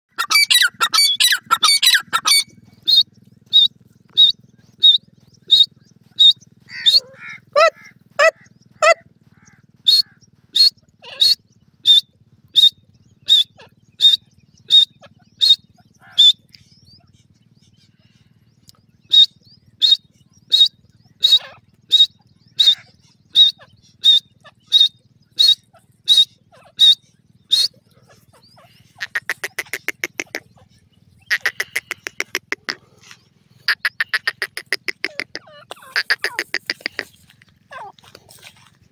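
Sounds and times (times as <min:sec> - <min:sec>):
francolin calling: 0:00.1 - 0:38.9.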